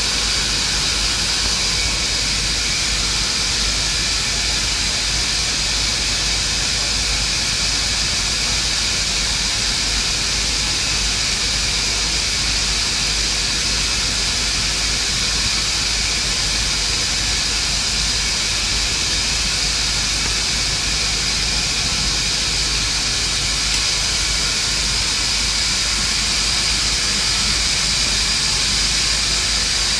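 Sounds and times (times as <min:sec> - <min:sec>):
welding arc hissing: 0:00.0 - 0:29.9.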